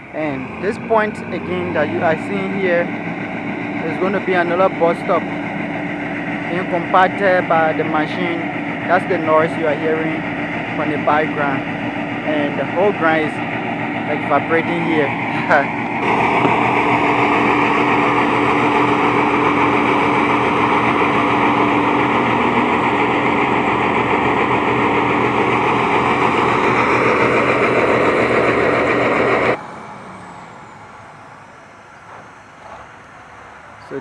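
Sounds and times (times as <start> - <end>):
road compactor engine running: 0.0 - 34.0.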